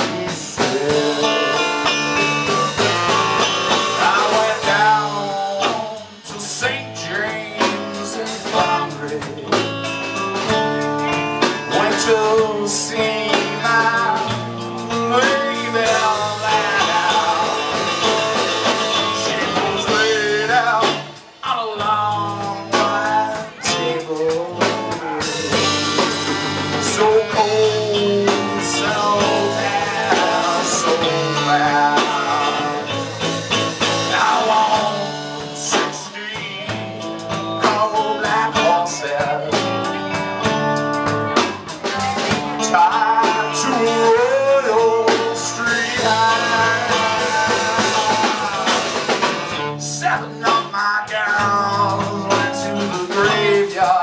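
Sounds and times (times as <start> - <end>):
live blues band: 0.0 - 54.0
person singing: 0.0 - 54.0.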